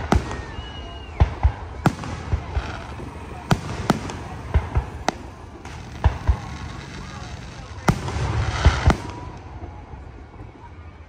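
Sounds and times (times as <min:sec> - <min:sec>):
fireworks bursting with sharp bangs: 0:00.0 - 0:10.8
falling whistling tone: 0:00.0 - 0:11.0.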